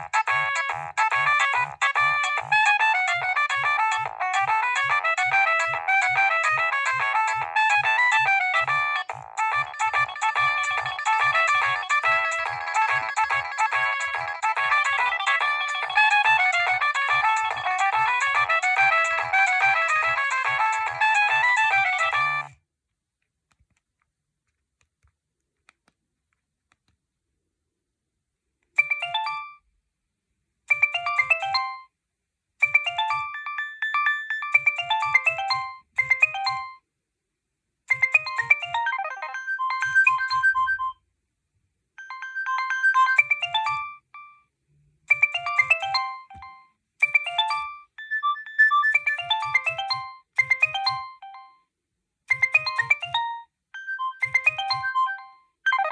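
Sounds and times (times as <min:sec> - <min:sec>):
mobile phone ringtone melody: 0:00.0 - 0:22.6, 0:28.8 - 0:29.7, 0:30.7 - 0:31.9, 0:32.6 - 0:36.8, 0:37.9 - 0:41.0, 0:42.0 - 0:44.5, 0:45.1 - 0:51.7, 0:52.3 - 0:55.9.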